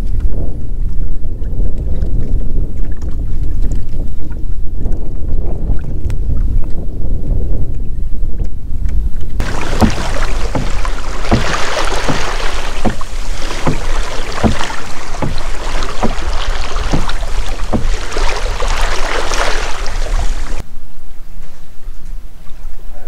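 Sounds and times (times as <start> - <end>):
water slapping a kayak hull: 0.0 - 20.6
wind rumbling on microphone: 0.0 - 23.0.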